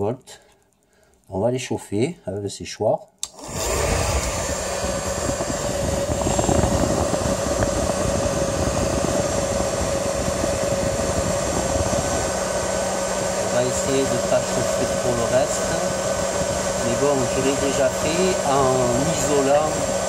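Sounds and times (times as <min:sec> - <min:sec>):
hair dryer blowing: 0:03.2 - 0:20.0.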